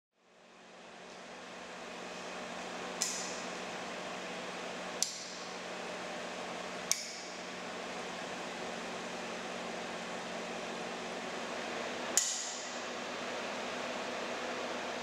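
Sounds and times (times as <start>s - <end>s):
projector fan hum: 0.2s - 15.0s.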